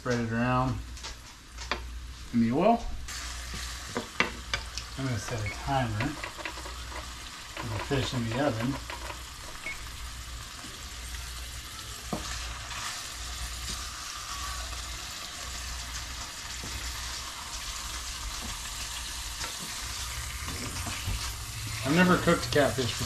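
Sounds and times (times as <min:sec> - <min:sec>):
fish frying in oil: 0:03.1 - 0:23.0.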